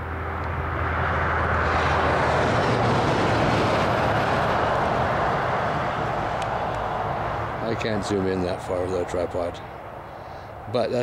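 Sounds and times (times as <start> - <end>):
car passing on highway: 0.0 - 11.0.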